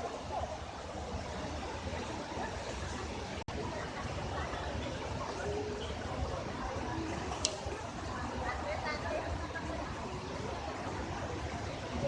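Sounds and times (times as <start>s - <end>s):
waterfall rushing with deep rumble: 0.0s - 12.0s.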